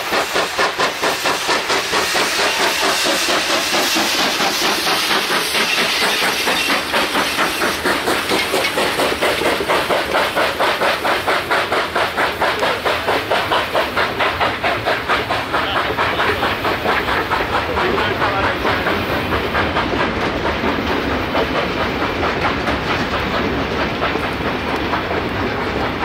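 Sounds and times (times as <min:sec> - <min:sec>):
steam hissing: 0:00.0 - 0:26.0
steam locomotive beat: 0:00.0 - 0:26.0.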